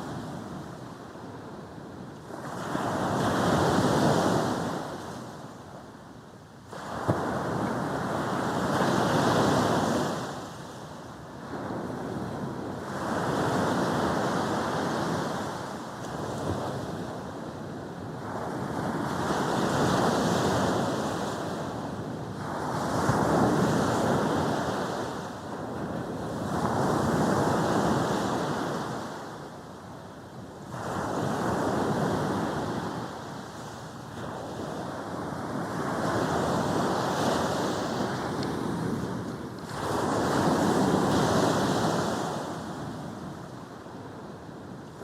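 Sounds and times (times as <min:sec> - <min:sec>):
sea waves breaking on a beach: 0:00.0 - 0:45.0.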